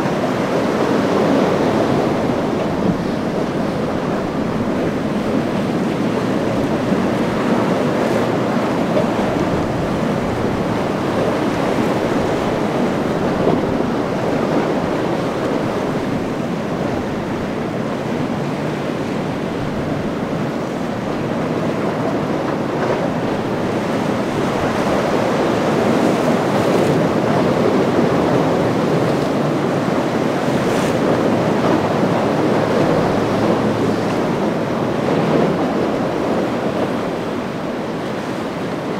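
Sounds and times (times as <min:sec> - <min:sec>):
surf breaking: 0:00.0 - 0:38.9
wind buffeting microphone: 0:00.0 - 0:38.9.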